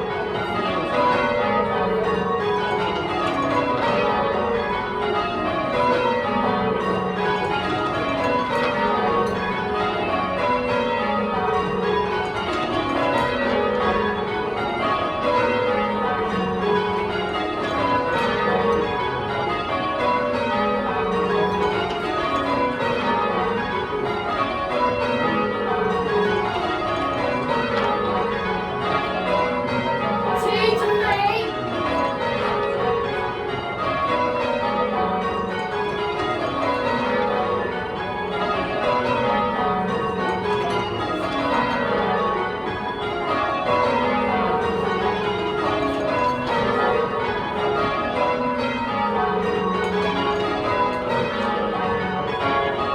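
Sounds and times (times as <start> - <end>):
church bells change ringing: 0.0 - 52.9.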